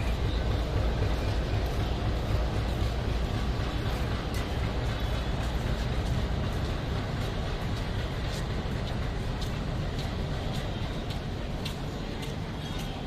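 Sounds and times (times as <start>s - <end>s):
diesel locomotive rumbling: 0.0s - 13.0s.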